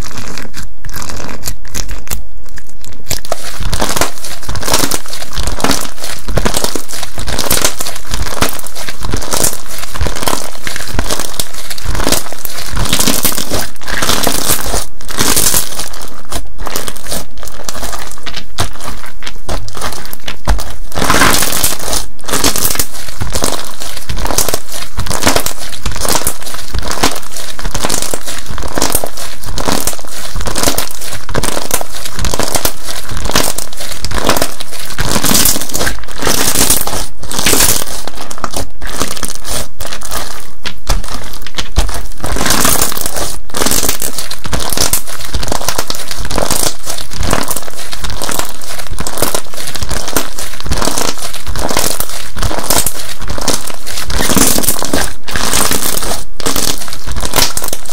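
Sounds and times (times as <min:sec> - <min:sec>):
slime crackling when squeezed: 0:00.0 - 0:57.9.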